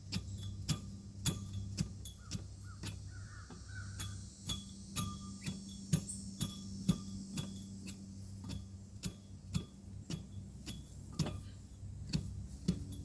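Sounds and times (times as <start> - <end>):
even ticking: 0.0 - 13.0
low hum: 0.0 - 13.0.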